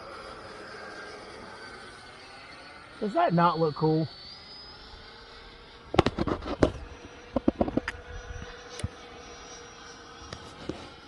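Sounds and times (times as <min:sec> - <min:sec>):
electric ducted fan whine: 0:00.0 - 0:11.0.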